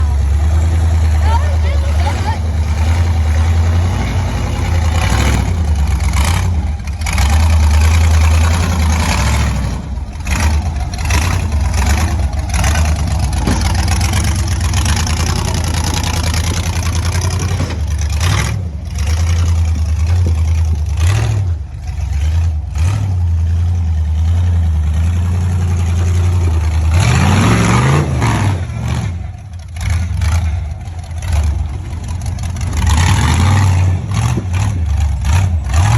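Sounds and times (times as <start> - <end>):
engine rumbling and revving: 0.0 - 35.9.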